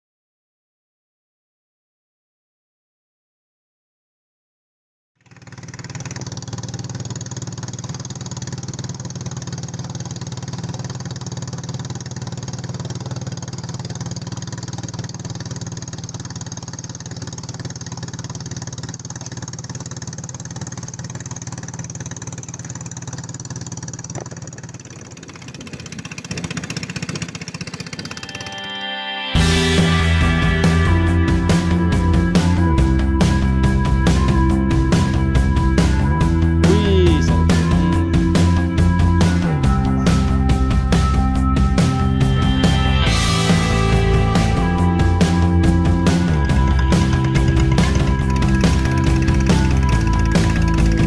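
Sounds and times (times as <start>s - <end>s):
small engine running: 5.2s - 51.0s.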